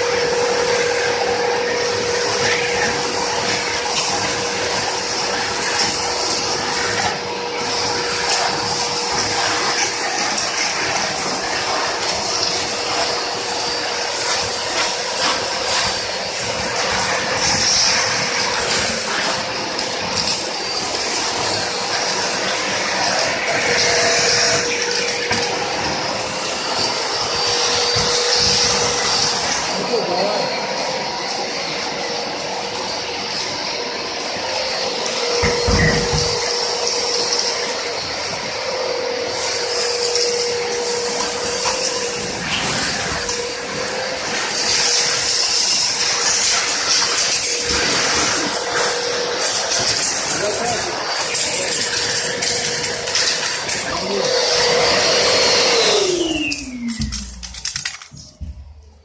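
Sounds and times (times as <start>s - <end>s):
industrial vacuum cleaner running: 0.0s - 59.0s.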